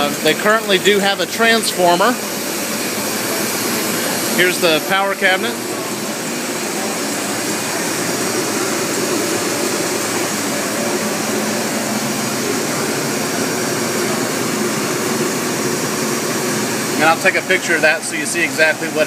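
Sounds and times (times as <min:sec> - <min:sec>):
machinery droning: 0:00.0 - 0:19.0.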